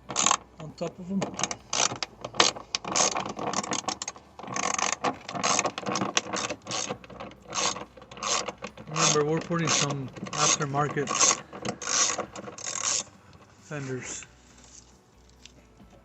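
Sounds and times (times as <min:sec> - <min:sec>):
ratchet wrench clicking: 0:00.0 - 0:00.6, 0:01.2 - 0:13.5.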